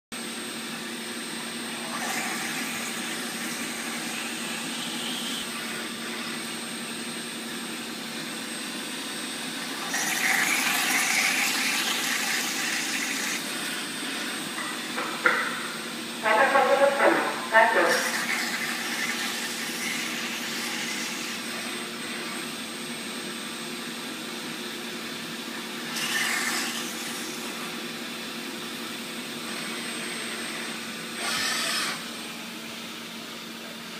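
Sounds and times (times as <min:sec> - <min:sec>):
machine hum with high whine: 0:00.1 - 0:33.9.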